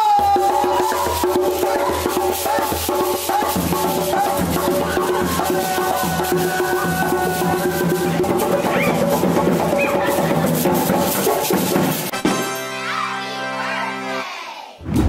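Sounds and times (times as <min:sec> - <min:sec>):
background music with beat: 0:00.0 - 0:13.1.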